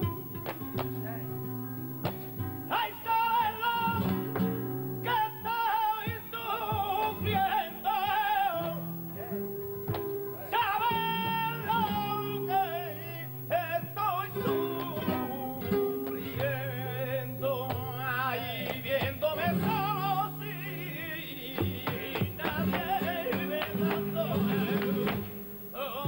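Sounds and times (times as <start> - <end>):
man singing flamenco: 0.0 - 2.0, 2.7 - 26.0
flamenco guitar: 0.0 - 26.0.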